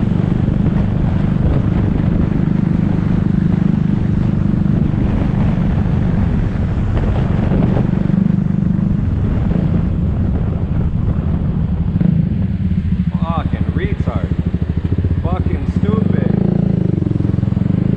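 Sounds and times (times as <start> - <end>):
wind noise on microphone: 0.0 - 17.9.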